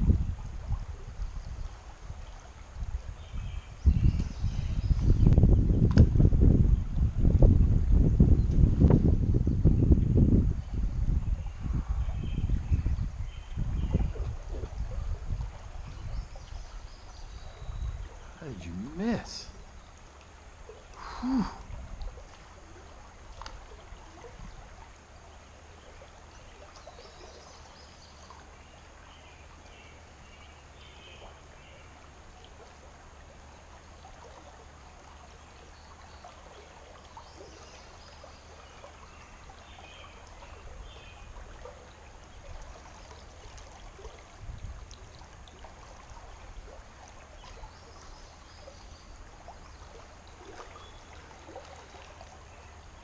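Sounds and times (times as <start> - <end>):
river water flowing: 0.0 - 5.2, 10.6 - 53.0.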